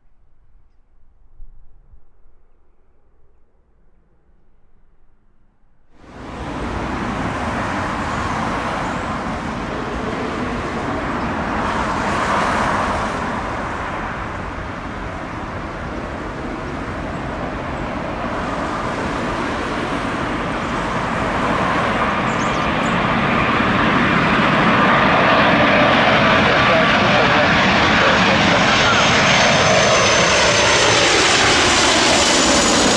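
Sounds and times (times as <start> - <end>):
jet engines rushing: 6.0 - 32.9.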